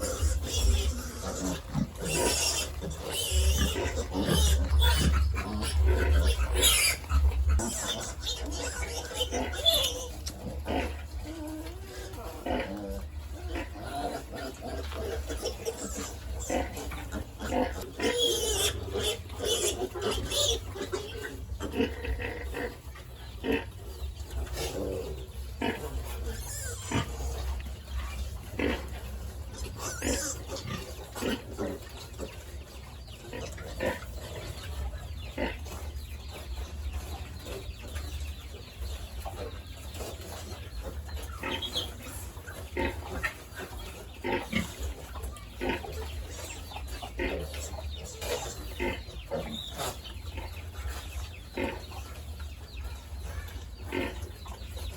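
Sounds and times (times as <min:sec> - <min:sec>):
chickens clucking: 0:00.0 - 0:54.9
pigs grunting: 0:00.0 - 0:54.9.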